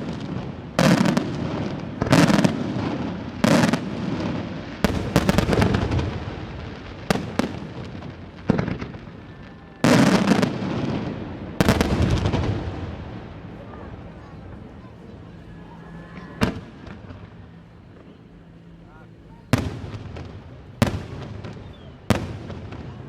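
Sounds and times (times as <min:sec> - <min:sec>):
firework cracks: 0:00.0 - 0:18.8
rumbling echo: 0:00.0 - 0:23.0.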